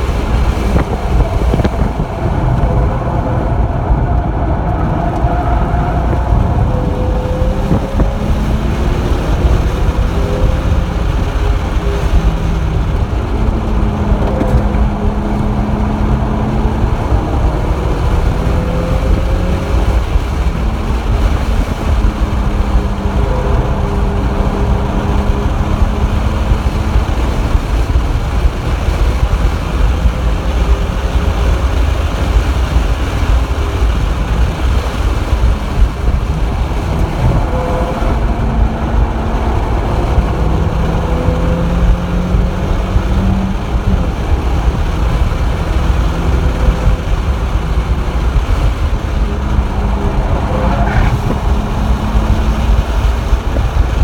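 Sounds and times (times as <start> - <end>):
car engine pulling: 0.0 - 54.0
road and wind noise: 0.0 - 54.0.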